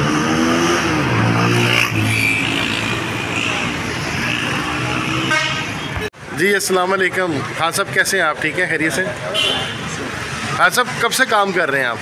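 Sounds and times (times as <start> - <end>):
road noise: 0.0 - 12.0
vehicle engines passing: 0.0 - 12.0.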